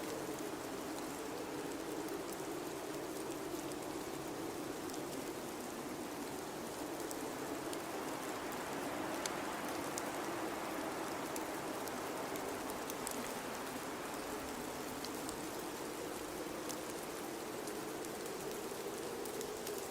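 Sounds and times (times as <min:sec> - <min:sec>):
faint ticks: 0:00.0 - 0:19.9.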